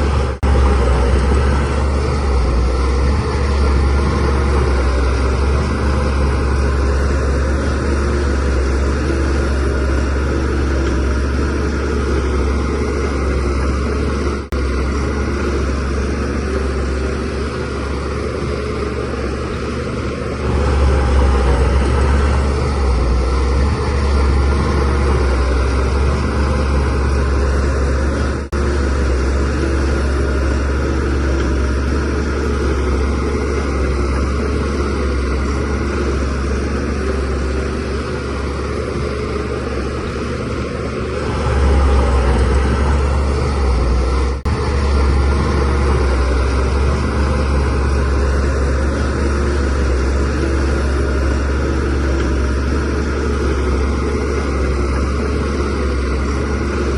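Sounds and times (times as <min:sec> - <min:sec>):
bulldozer diesel engine humming: 0:00.0 - 0:56.9.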